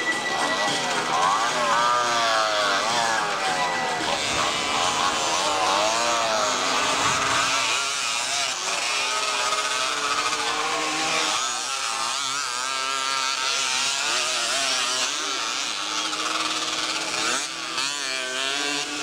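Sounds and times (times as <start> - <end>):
motocross motorcycles revving: 0.0 - 19.0.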